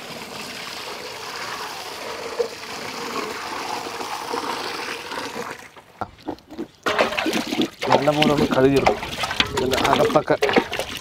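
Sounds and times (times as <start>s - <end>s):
water running and splashing: 0.0s - 11.0s.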